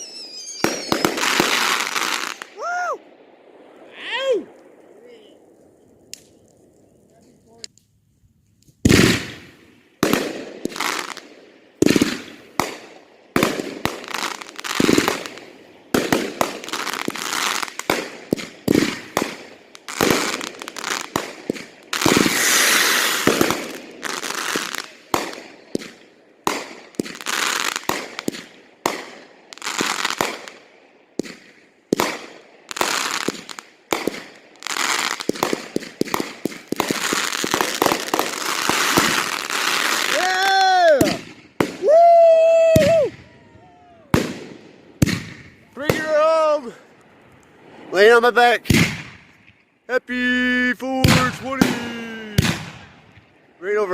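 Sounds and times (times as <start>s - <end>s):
fireworks bangs: 0.0s - 7.7s, 8.7s - 53.9s
fireworks crackling: 0.0s - 53.9s.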